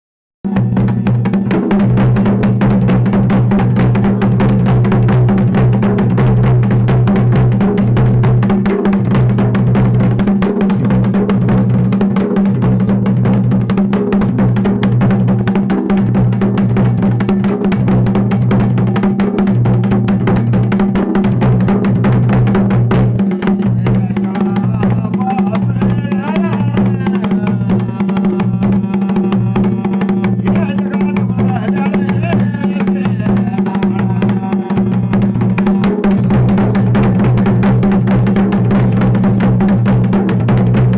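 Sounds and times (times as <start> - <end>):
drums playing a steady beat: 0.4 - 40.9.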